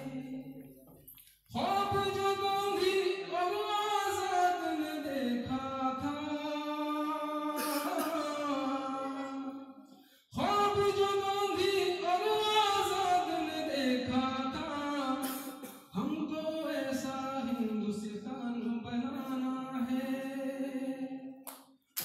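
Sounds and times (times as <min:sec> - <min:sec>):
man singing: 0:00.0 - 0:00.8, 0:01.5 - 0:21.4.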